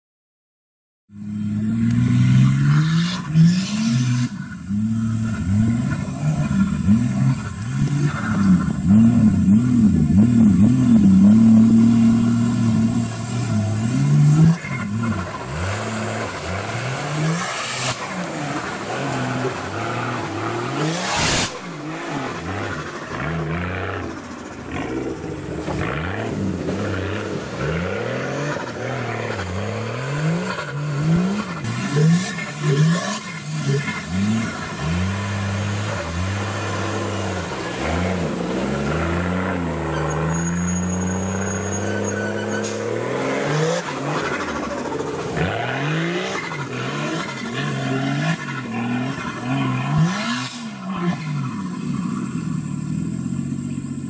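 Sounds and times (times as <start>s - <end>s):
off-road vehicle engine revving: 1.1s - 54.0s.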